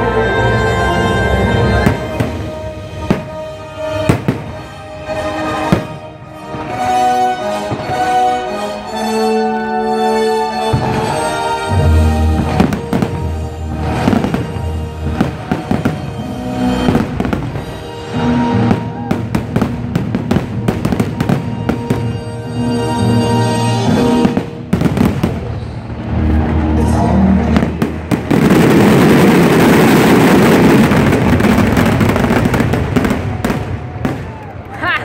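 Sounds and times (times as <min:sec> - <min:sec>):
loud show music: 0:00.0 - 0:33.6
fireworks crackling: 0:01.8 - 0:06.9, 0:10.7 - 0:35.0
fireworks bursting and banging: 0:01.8 - 0:08.4, 0:10.6 - 0:34.7.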